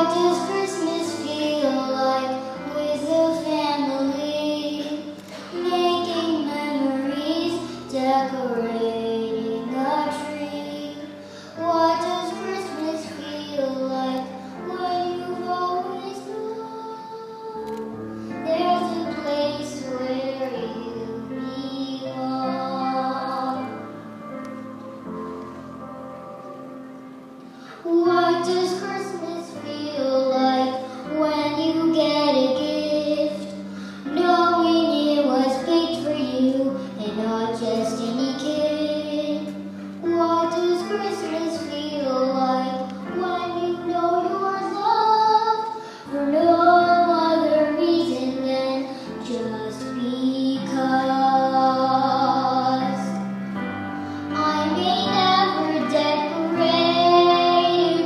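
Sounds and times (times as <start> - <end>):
girl singing: 0.0 - 24.0, 27.6 - 53.4, 54.0 - 58.0
instrumental accompaniment: 0.0 - 58.0.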